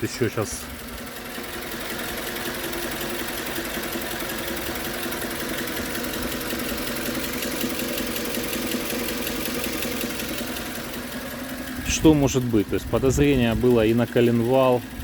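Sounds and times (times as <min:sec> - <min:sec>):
car engine idling: 0:00.0 - 0:15.0
rapid engine knock: 0:00.2 - 0:15.0.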